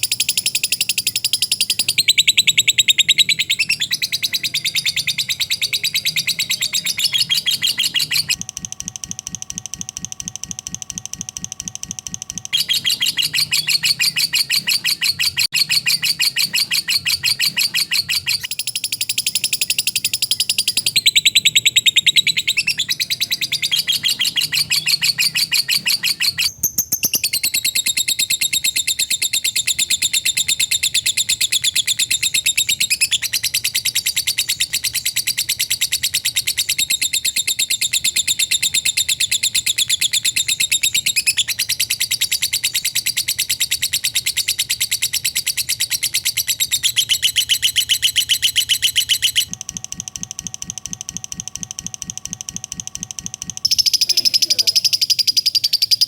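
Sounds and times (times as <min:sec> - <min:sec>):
lovebird chattering trill: 0:00.0 - 0:08.4, 0:12.4 - 0:49.5, 0:53.4 - 0:56.0.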